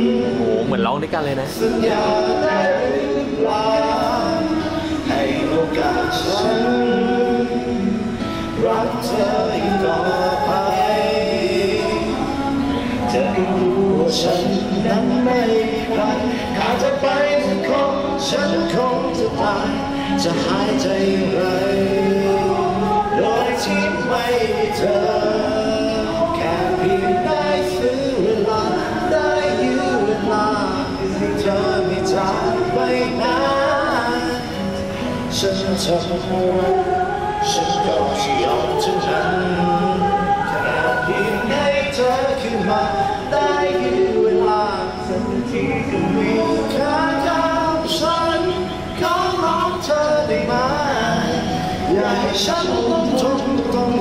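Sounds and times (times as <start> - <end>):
man singing through speaker: 0.0 - 54.0.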